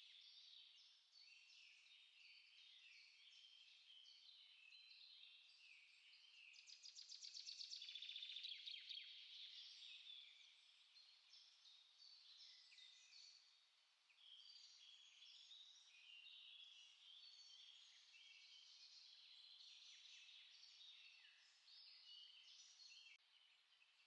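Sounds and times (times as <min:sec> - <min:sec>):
songbirds chirping and warbling: 0:00.0 - 0:24.0.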